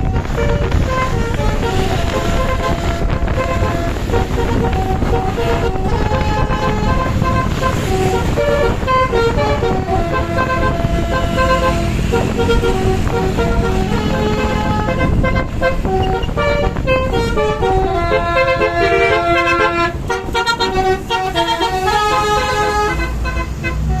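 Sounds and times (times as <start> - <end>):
engine and road rumble: 0.0 - 24.0
musical air horns playing melody: 0.0 - 24.0.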